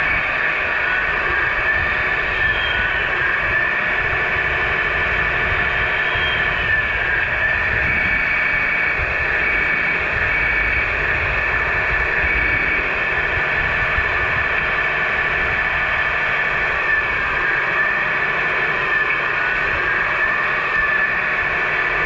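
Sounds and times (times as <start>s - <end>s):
electric motor and gearbox whining: 0.0s - 22.0s.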